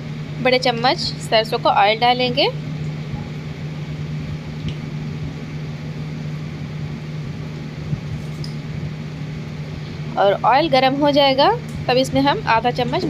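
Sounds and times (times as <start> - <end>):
low electric hum: 0.0 - 13.0.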